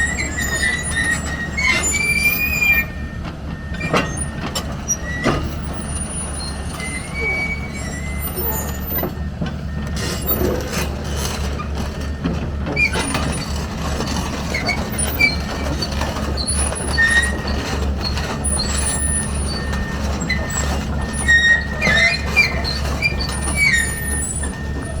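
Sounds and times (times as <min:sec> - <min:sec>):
excavator diesel engine drone: 0:00.0 - 0:25.0
metal squeals and clanks: 0:00.0 - 0:25.0.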